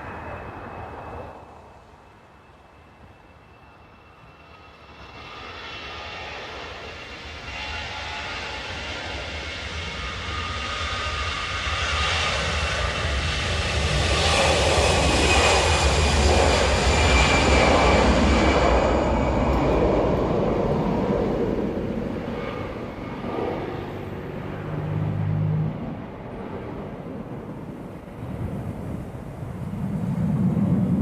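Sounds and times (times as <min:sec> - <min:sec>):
jet engines roaring at take-off: 0:00.0 - 0:31.0.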